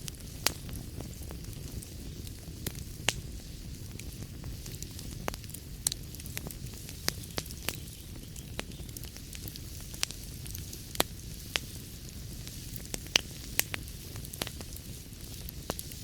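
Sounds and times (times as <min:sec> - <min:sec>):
fire crackling and popping: 0:00.0 - 0:16.0
fire rumble and hiss: 0:00.0 - 0:16.0.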